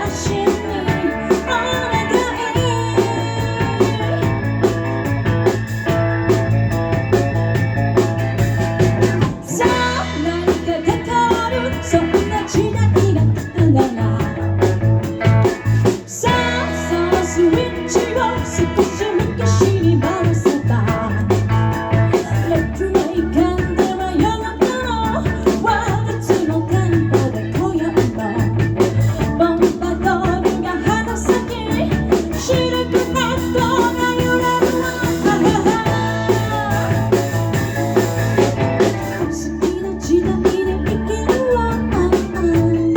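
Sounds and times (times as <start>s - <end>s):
electric guitar lead melody: 0.0s - 42.9s
live rock and roll band: 0.0s - 42.9s.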